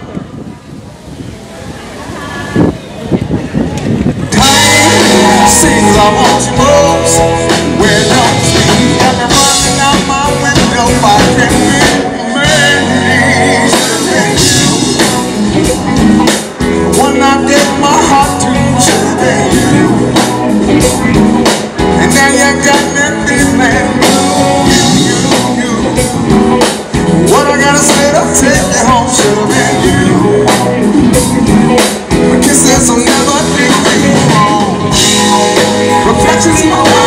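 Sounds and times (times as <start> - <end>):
drums: 0.0 - 37.0
keyboard: 0.0 - 37.0
electric guitars: 2.3 - 37.0
person singing: 4.3 - 37.0.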